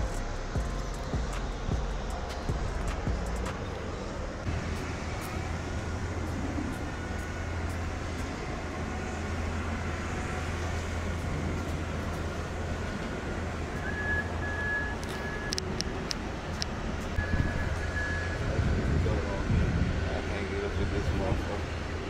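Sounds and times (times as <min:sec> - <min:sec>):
low hum of traffic: 0:00.0 - 0:22.0.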